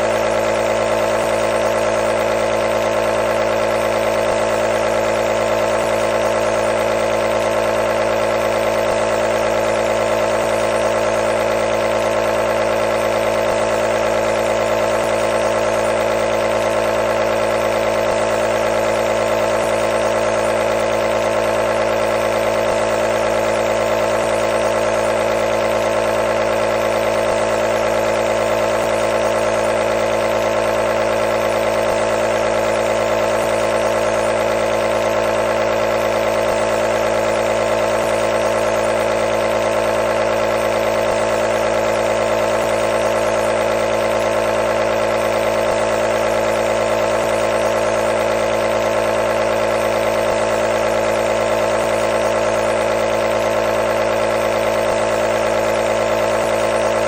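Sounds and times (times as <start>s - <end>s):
nebulizer motor hum: 0.0s - 57.0s.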